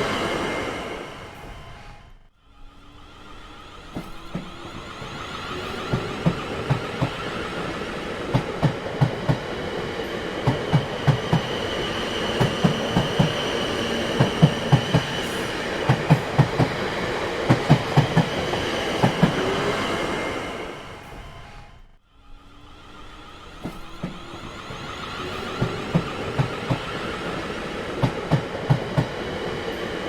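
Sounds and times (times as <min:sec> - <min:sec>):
train rumble: 0:00.0 - 0:30.0
train wheels clacking over rail joints: 0:03.8 - 0:21.7, 0:23.5 - 0:30.0.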